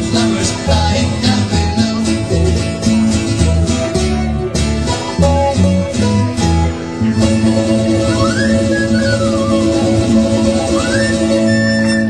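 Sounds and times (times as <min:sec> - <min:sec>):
folk band playing: 0:00.0 - 0:12.0
strummed acoustic guitar: 0:00.0 - 0:12.0.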